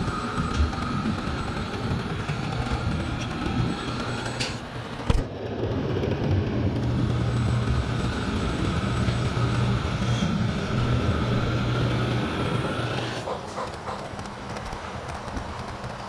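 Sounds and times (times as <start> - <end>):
model train wheels and motor rumble: 0.0 - 16.0.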